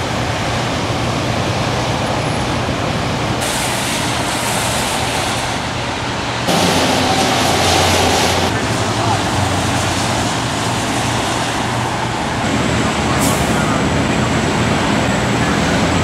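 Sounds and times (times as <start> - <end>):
engine hum: 0.0 - 16.0
tyres rushing on wet road: 0.0 - 16.0.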